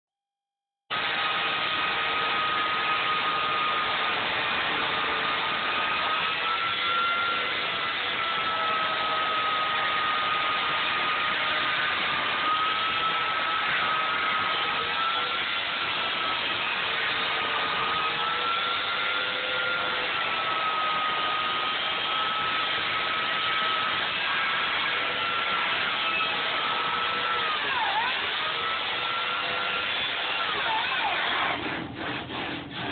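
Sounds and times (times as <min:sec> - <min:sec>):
chainsaw cutting foam: 0:00.9 - 0:32.9.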